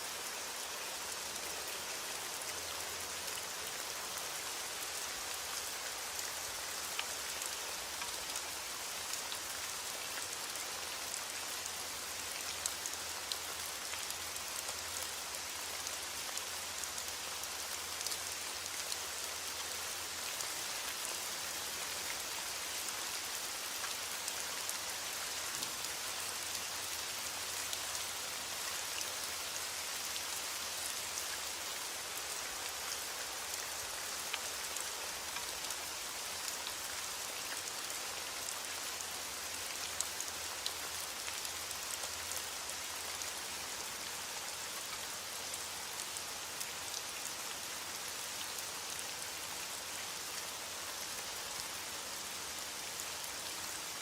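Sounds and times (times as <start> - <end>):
rain hissing on a surface: 0.0 - 54.0.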